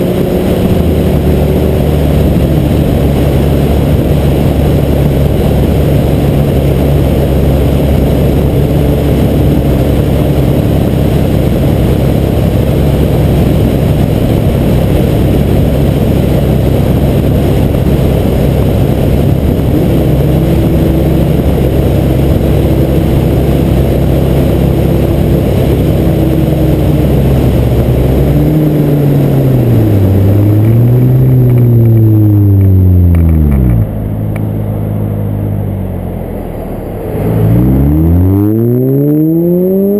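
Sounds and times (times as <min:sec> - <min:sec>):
car engine: 0:00.0 - 0:39.9
wind rumble: 0:00.0 - 0:39.9.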